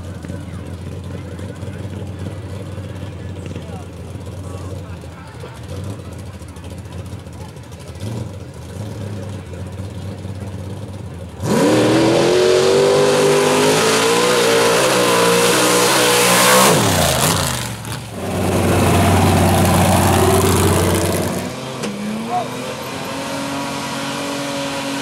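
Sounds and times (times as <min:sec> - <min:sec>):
vehicle engine at full throttle: 0:00.0 - 0:25.0.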